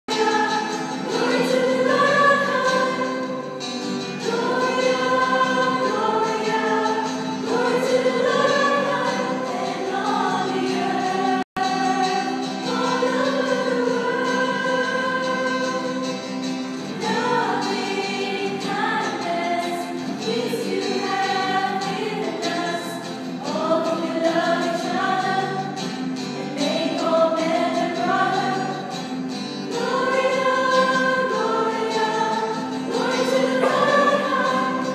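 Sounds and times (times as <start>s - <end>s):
choir singing: 0.1s - 34.9s.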